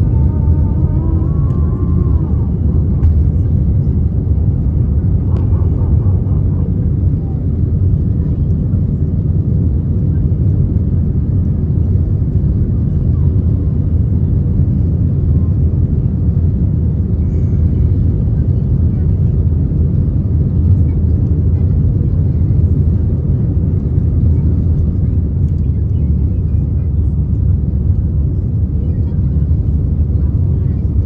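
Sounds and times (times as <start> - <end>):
jet engines rumbling in cabin: 0.0 - 31.0.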